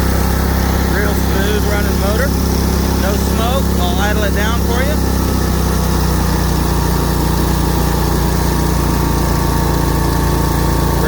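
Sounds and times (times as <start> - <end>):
mower engine idling: 0.0 - 11.0.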